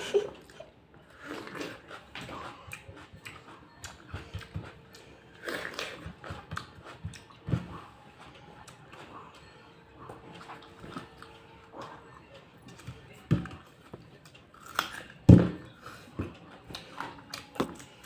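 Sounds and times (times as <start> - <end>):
woman chewing crunchy food: 0.0 - 18.0.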